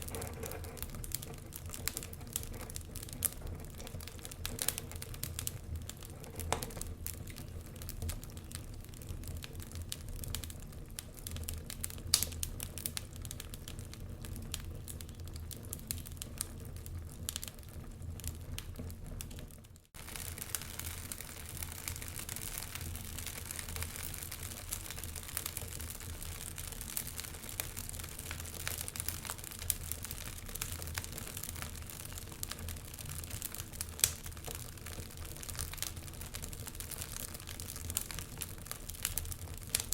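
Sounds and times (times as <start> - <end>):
fire crackling and popping: 0.0 - 39.9
fire rumbling and hissing: 0.0 - 39.9.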